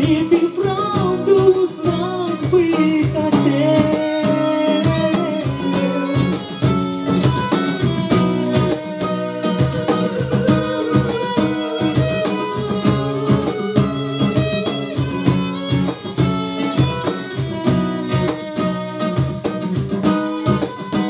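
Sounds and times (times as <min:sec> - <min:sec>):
bowed violin melody: 0:00.0 - 0:21.0
hand percussion beat: 0:00.0 - 0:21.0
strummed acoustic guitar: 0:00.0 - 0:21.0.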